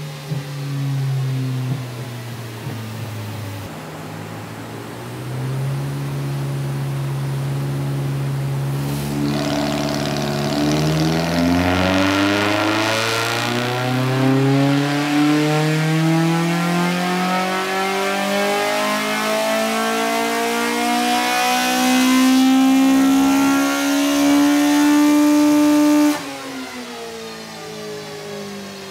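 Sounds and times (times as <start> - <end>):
car engine revving at full throttle: 0.0 - 28.9.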